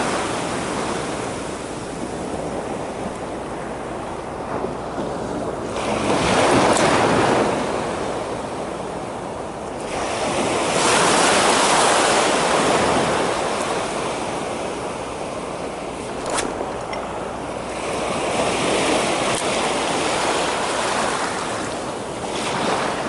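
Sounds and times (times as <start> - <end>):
waves breaking on shore: 0.0 - 23.0
wind on microphone: 0.0 - 23.0.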